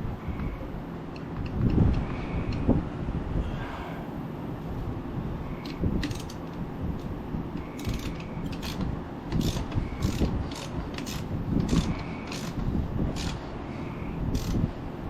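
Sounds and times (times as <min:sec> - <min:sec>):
shop fan humming: 0:00.0 - 0:15.0.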